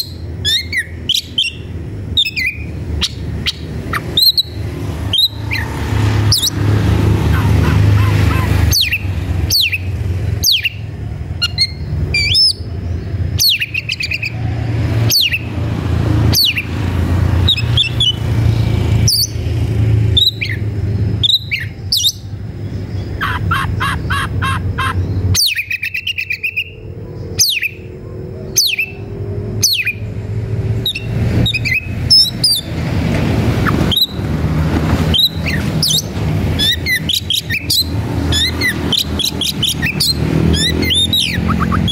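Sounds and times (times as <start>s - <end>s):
bird singing loudly: 0.0s - 14.4s, 15.0s - 15.5s, 16.3s - 16.7s, 17.4s - 18.3s, 20.1s - 30.1s, 30.8s - 32.8s, 33.6s - 34.2s, 35.1s - 41.9s.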